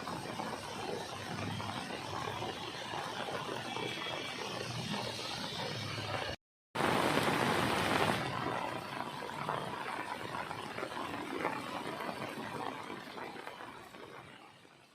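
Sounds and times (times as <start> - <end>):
rain falling: 0.0 - 14.8.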